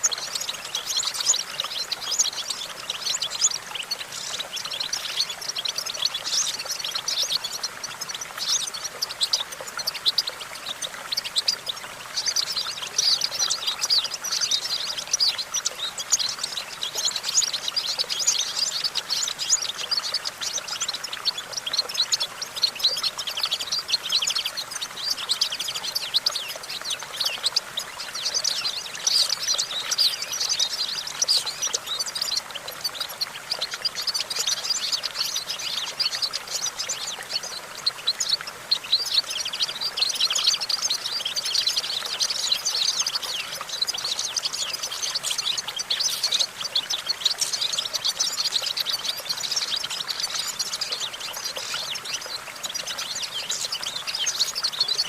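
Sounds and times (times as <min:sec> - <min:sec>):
finch singing: 0:00.0 - 0:55.0.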